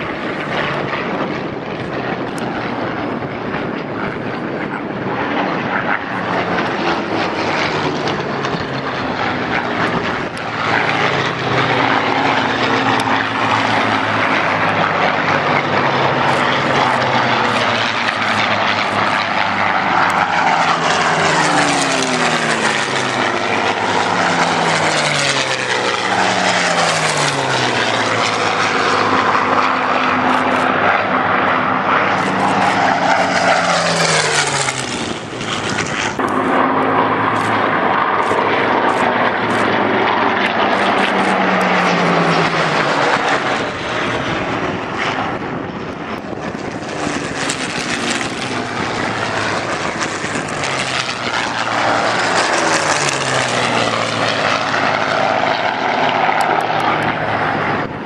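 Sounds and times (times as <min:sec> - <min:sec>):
piston engine planes flying past: 0:00.0 - 0:58.0.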